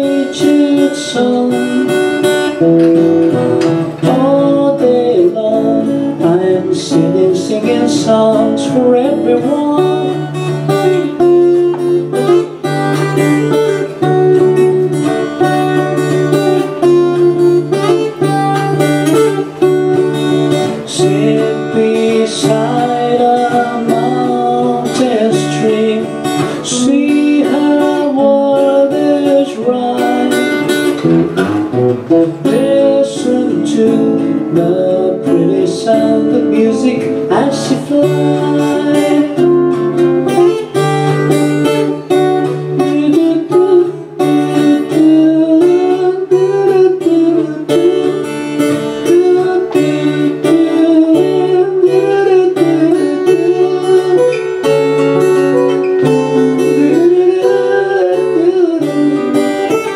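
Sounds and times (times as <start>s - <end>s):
two acoustic guitars playing: 0.0s - 59.9s.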